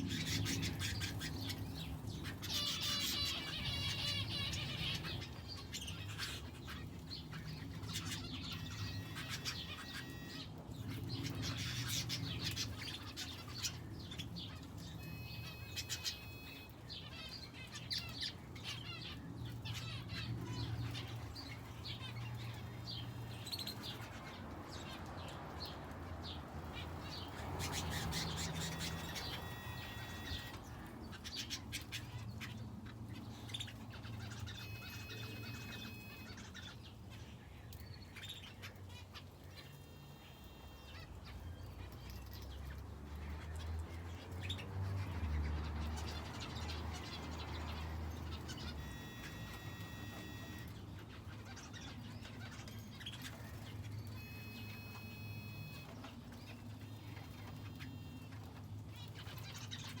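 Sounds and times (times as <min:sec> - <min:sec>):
finches and canary chirping: 0:00.0 - 1:00.0.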